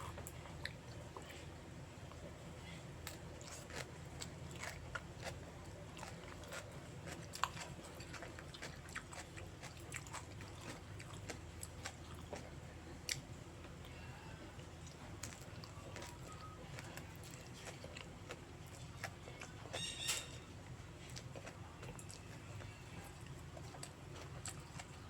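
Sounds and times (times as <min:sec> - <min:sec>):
steady low hum: 0:00.0 - 0:25.0
wet chewing of noodles: 0:00.0 - 0:25.0.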